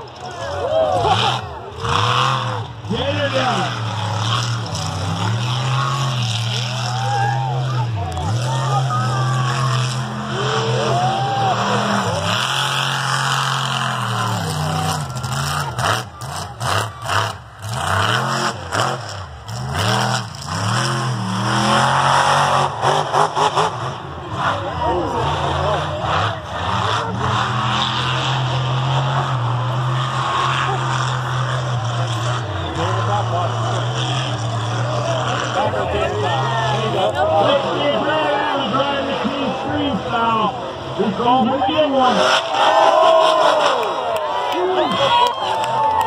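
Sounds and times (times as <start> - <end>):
truck engine revving hard: 0.0 - 46.0.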